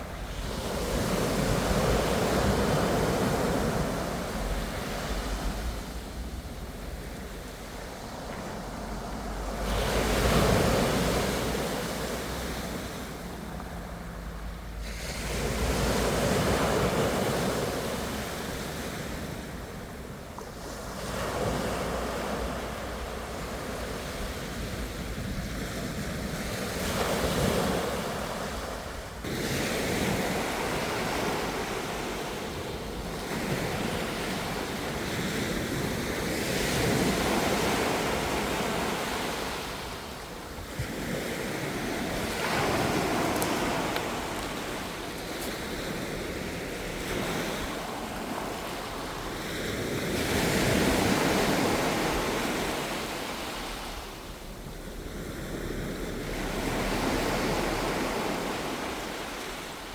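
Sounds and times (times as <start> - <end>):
waves breaking and washing in: 0.0 - 59.9.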